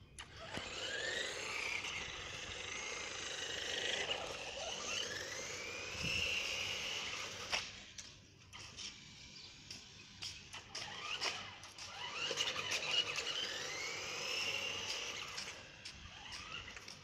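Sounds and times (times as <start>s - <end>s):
electric motor and gears whining: 0.1s - 17.0s.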